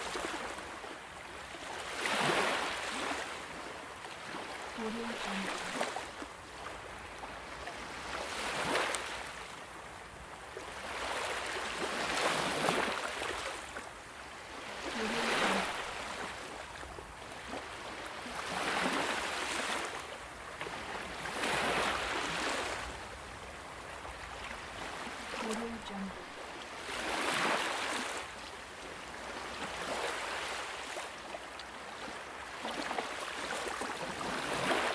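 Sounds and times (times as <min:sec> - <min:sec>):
waves washing in: 0:00.0 - 0:34.9.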